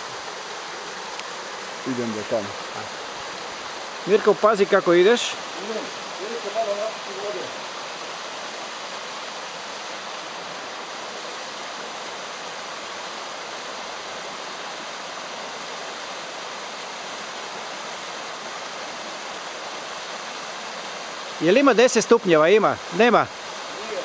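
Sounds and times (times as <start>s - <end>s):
waterfall pouring into pool: 0.0s - 24.0s.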